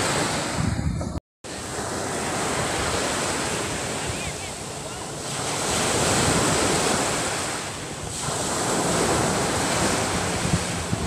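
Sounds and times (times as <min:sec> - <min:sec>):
wind rumble on microphone: 0:00.0 - 0:11.0
small waves breaking on sand: 0:01.5 - 0:11.0.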